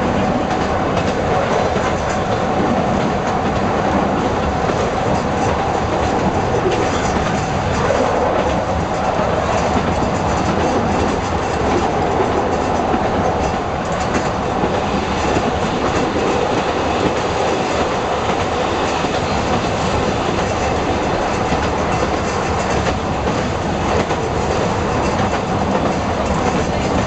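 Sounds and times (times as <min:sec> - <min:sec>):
diesel railcar running: 0:00.0 - 0:27.0.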